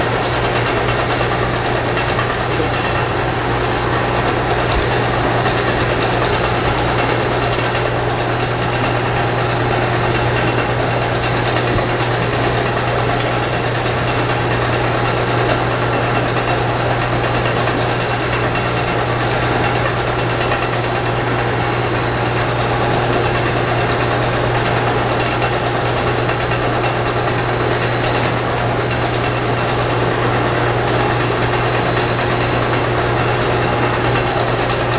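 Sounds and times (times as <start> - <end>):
machine running: 0.0 - 34.9.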